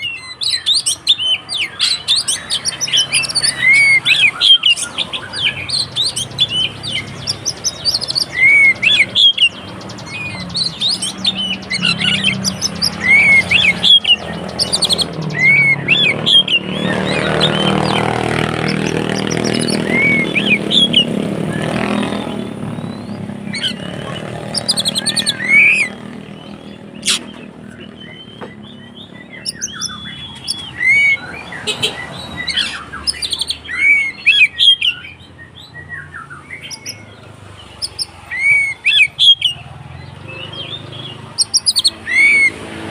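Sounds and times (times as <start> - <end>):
bird singing whistles and chips: 0.0 - 39.7, 40.3 - 42.6.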